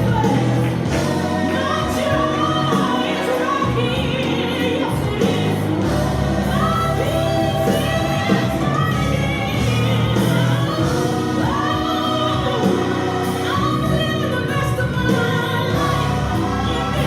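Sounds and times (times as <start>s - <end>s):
backing choir singing: 0.0s - 17.0s
lead singer: 0.0s - 17.0s.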